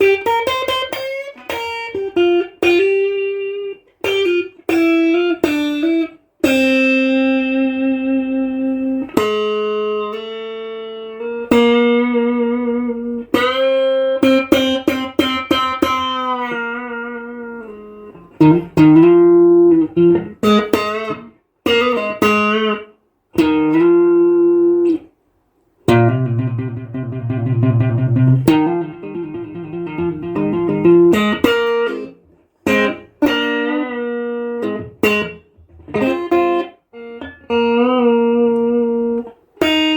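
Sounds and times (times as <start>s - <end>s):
electric guitar through amplifier: 0.0s - 25.1s, 25.8s - 39.9s.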